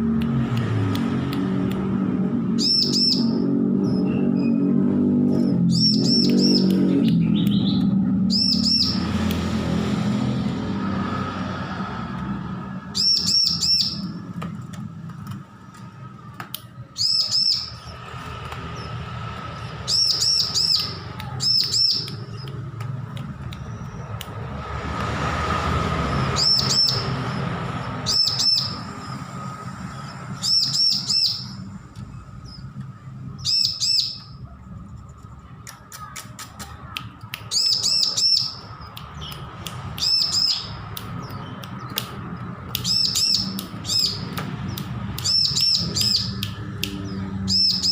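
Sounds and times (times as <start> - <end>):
bird chirping in rapid bursts: 2.4 - 9.3, 12.9 - 16.0, 16.7 - 34.5, 37.4 - 47.9.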